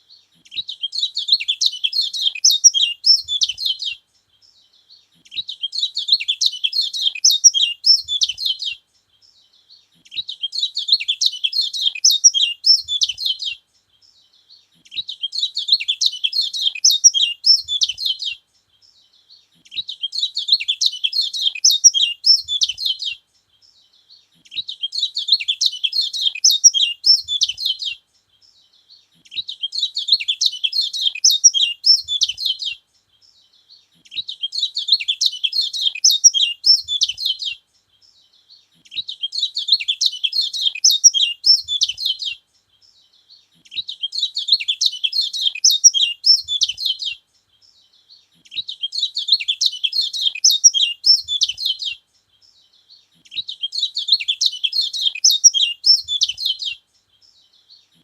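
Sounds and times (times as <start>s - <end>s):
bird twittering: 0.0s - 4.0s, 4.8s - 8.8s, 9.6s - 13.6s, 14.4s - 18.4s, 19.2s - 23.2s, 24.0s - 28.0s, 28.8s - 32.8s, 33.7s - 37.6s, 38.4s - 42.4s, 43.2s - 47.2s, 48.0s - 52.0s, 52.7s - 58.0s.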